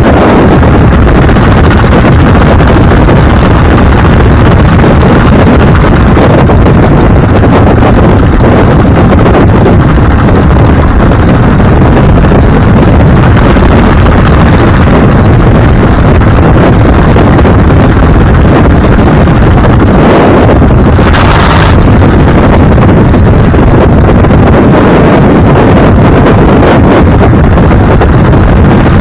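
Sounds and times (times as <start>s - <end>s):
vehicle road and wind noise: 0.0s - 29.0s
wind buffeting microphone: 0.0s - 29.0s.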